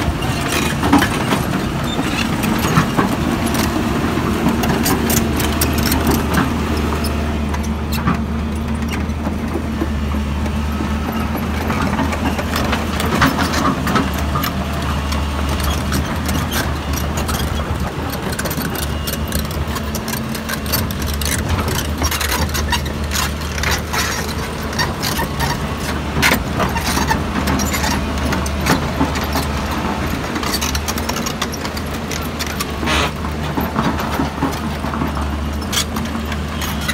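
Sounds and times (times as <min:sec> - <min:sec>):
excavator diesel engine running: 0:00.0 - 0:36.9
steel tracks clanking: 0:00.0 - 0:36.9.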